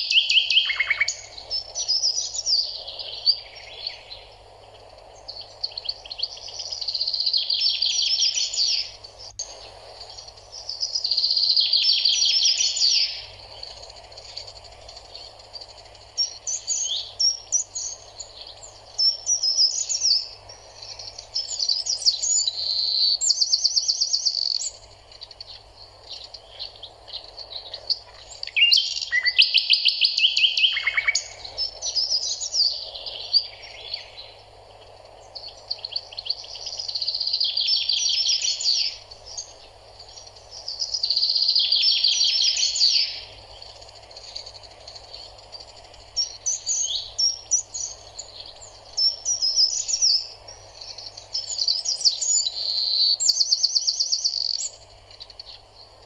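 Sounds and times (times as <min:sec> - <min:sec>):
faint steady hiss: 0:00.0 - 0:56.0
songbirds chirping and trilling: 0:00.0 - 0:56.0.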